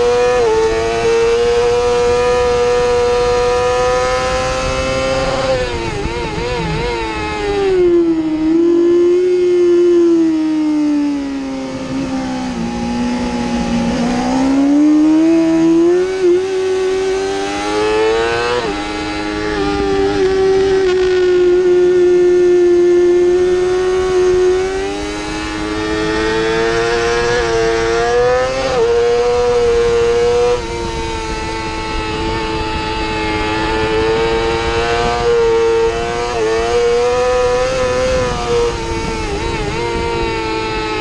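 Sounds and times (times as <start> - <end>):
motorcycle engine revving: 0.0 - 41.0
wind rush: 0.0 - 41.0.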